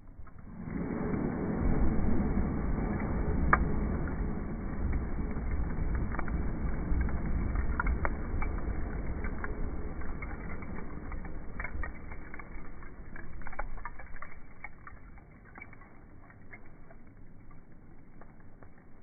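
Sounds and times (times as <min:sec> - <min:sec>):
low rumble: 0:00.0 - 0:19.0
wood fire crackling: 0:00.0 - 0:19.0.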